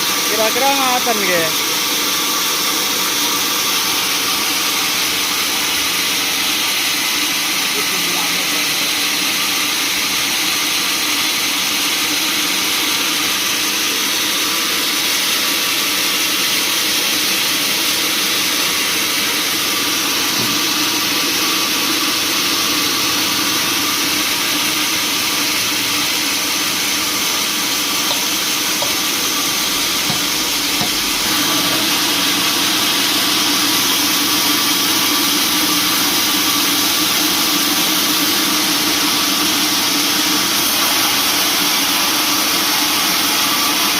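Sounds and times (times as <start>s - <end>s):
sawmill machinery hissing: 0.0s - 43.9s.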